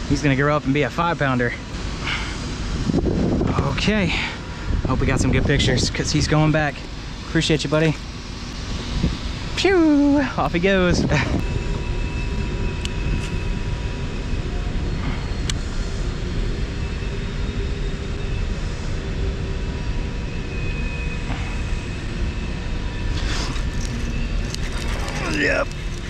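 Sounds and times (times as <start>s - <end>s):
wind rumble on microphone: 1.8s - 7.7s, 8.4s - 26.0s.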